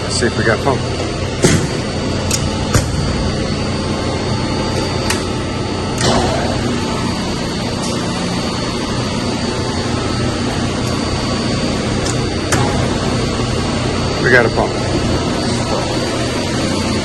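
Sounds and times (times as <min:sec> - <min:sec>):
drone of pumps running: 0:00.0 - 0:17.0.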